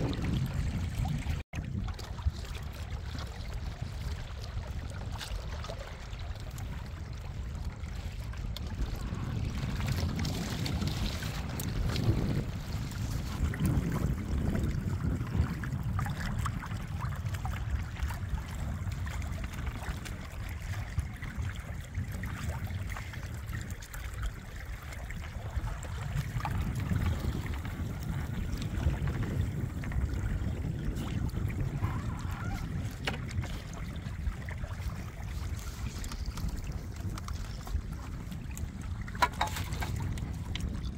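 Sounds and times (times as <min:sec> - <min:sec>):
water splashing along hull: 0:00.0 - 0:40.9
wind buffeting microphone: 0:00.0 - 0:40.9.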